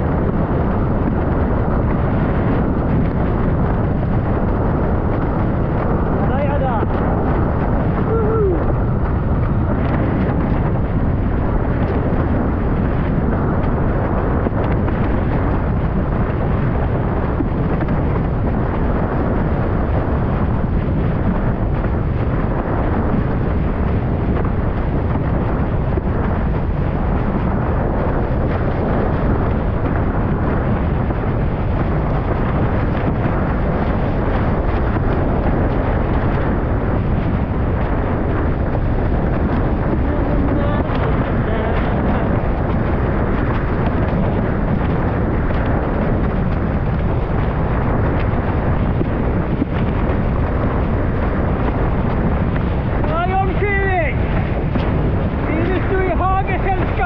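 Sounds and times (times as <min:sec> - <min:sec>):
rushing water: 0:00.0 - 0:57.0
wind buffeting microphone: 0:00.0 - 0:57.0.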